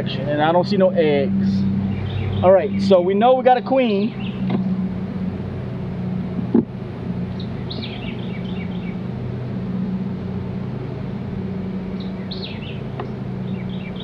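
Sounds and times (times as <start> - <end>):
songbird chirping: 0.0 - 14.0
steady low hum: 0.0 - 14.0.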